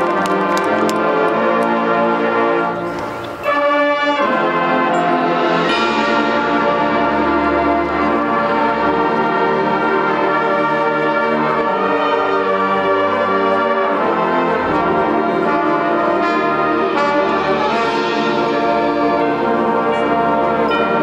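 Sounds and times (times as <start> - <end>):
brass band playing held chords: 0.0 - 21.0.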